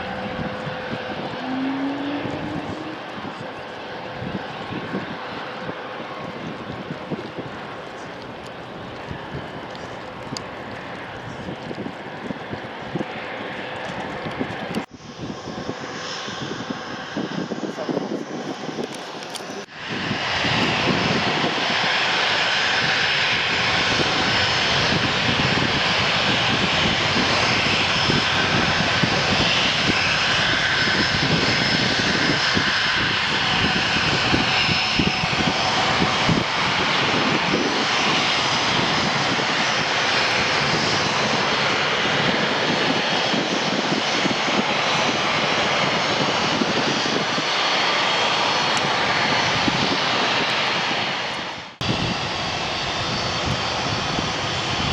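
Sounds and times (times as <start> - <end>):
jet engines roaring with whine: 0.0 - 54.9.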